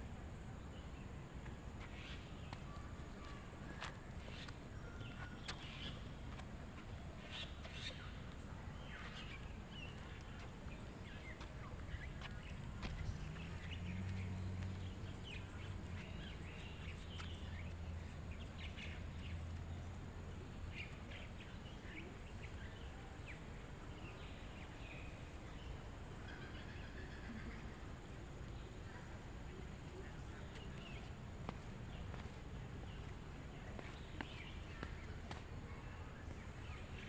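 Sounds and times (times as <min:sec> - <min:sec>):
outdoor ambience: 0:00.0 - 0:37.0.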